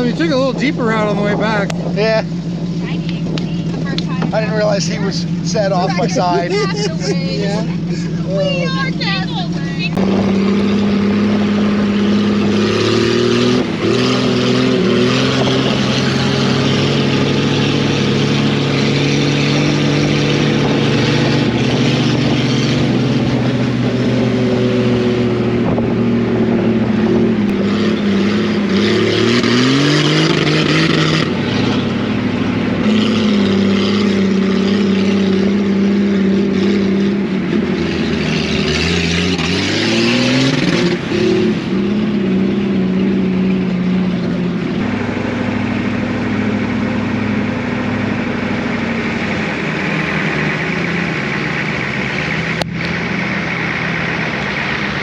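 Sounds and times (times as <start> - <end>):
vehicle engine accelerating: 0.0 - 55.0.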